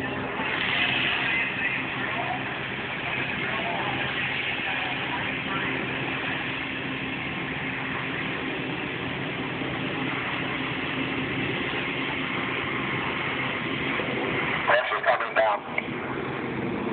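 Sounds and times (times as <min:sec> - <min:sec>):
boat engines and pumps droning: 0:00.0 - 0:16.9.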